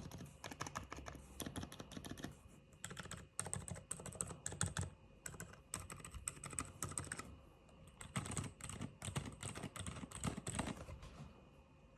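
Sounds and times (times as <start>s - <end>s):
typing on mechanical keyboard: 0.0s - 7.3s, 7.9s - 10.9s.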